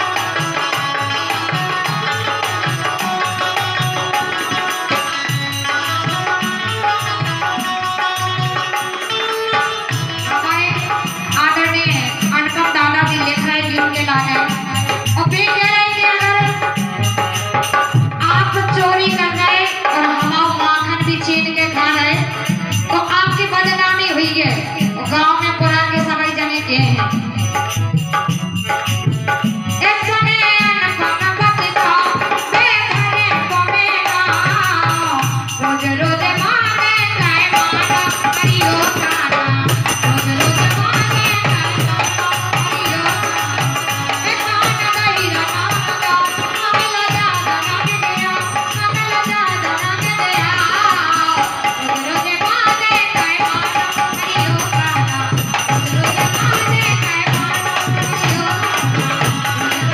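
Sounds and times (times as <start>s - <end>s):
hand percussion and drums: 0.0s - 59.9s.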